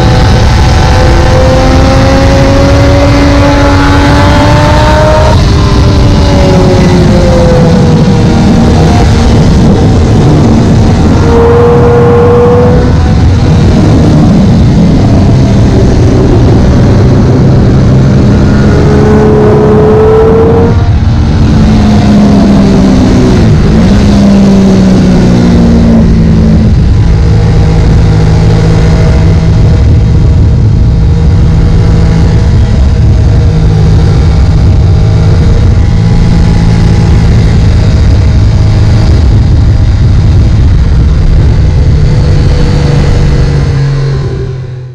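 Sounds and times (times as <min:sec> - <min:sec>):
heavy wind rush: 0:00.0 - 0:44.9
motorcycle engine at speed: 0:00.0 - 0:44.9.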